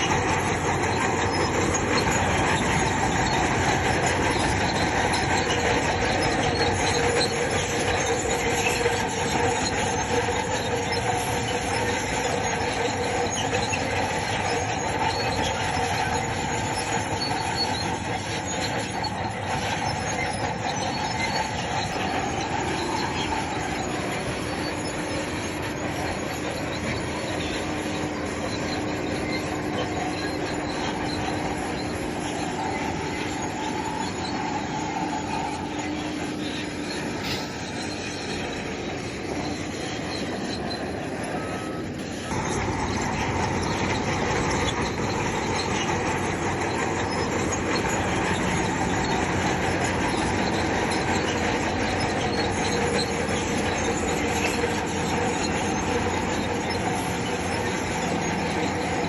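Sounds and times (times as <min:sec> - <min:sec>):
bulldozer engine running: 0:00.0 - 0:59.0
steel tracks squealing and clattering: 0:00.0 - 0:59.0.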